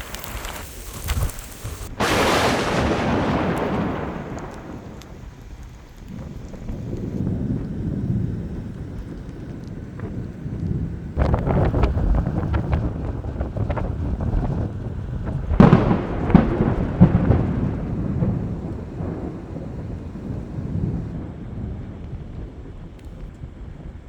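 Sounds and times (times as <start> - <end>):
thunder cracking and rumbling: 0.0 - 24.0.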